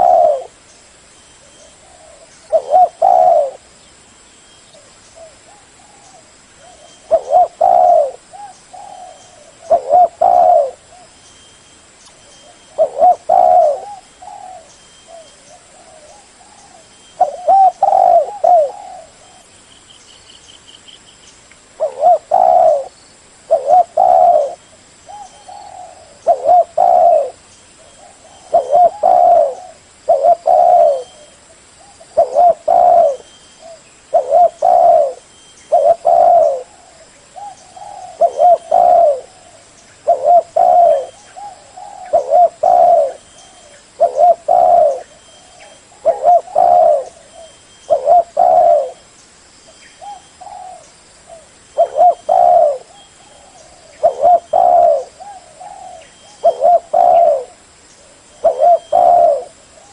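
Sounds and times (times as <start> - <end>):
dove cooing: 0.0 - 0.6, 1.4 - 3.7, 4.8 - 11.1, 12.3 - 19.5, 21.8 - 49.0, 50.0 - 59.9.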